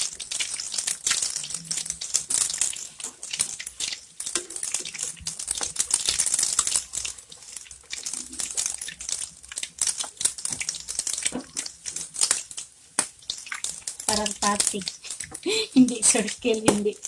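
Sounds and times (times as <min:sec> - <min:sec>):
oil sizzling and crackling: 0:00.0 - 0:17.0.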